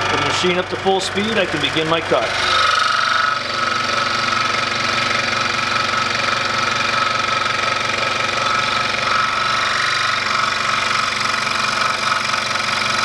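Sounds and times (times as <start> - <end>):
scroll saw cutting wood: 0.0 - 13.0.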